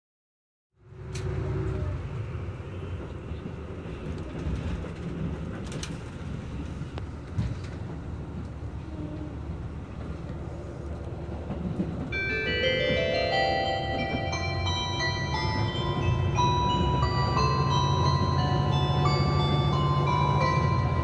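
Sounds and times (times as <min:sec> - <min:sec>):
train rumbling: 0:00.8 - 0:21.0.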